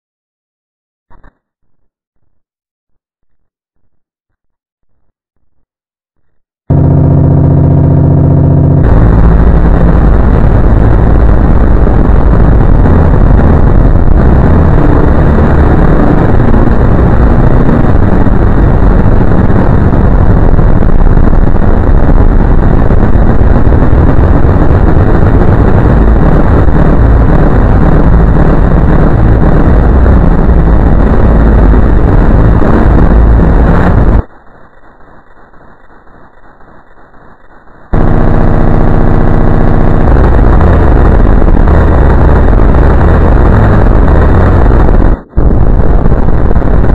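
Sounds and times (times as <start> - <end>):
harsh distorted noise: 6.2 - 46.9
distorted held chord: 6.7 - 35.5, 37.9 - 46.9.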